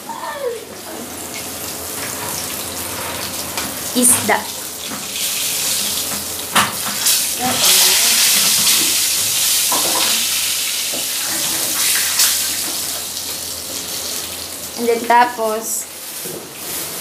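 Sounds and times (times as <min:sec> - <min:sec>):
fish sizzling in hot oil: 0:01.1 - 0:17.0.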